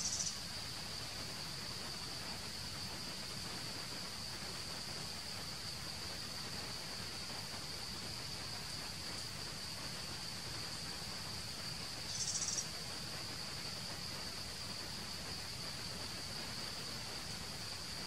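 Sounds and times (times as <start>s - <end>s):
high-pitched insect chorus: 0.0s - 18.0s
rapidly pulsing insect trill: 0.0s - 18.0s
soft hiss: 0.0s - 18.0s.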